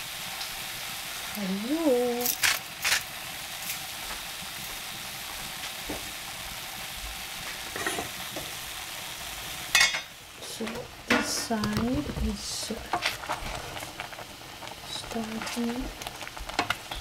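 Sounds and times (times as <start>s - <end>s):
saucepan hissing on burner: 0.0s - 17.0s.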